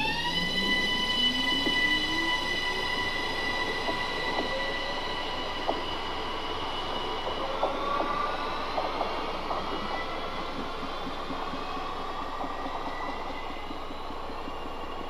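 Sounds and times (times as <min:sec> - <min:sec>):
electric train drive whine: 0:00.0 - 0:15.0.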